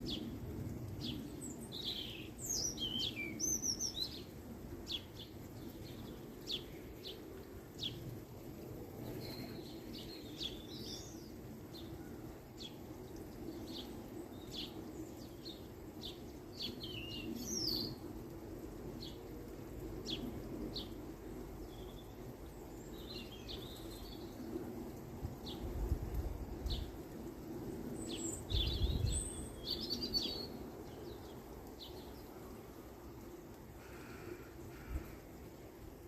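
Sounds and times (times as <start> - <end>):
low background noise: 0.0 - 36.0.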